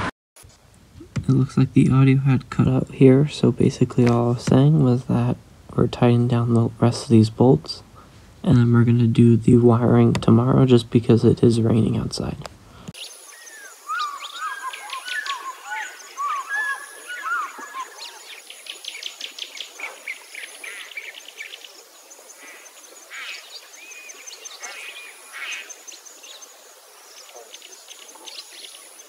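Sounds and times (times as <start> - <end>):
songbirds chirping and singing: 1.4 - 29.0.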